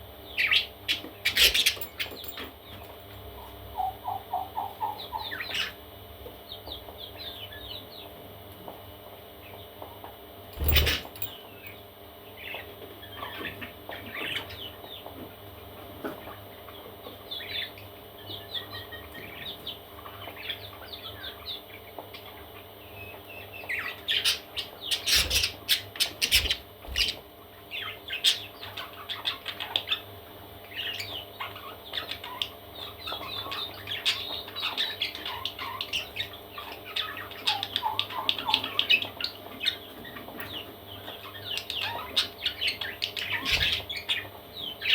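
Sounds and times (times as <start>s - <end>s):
parrot chicks chirping and squawking: 0.1s - 44.9s.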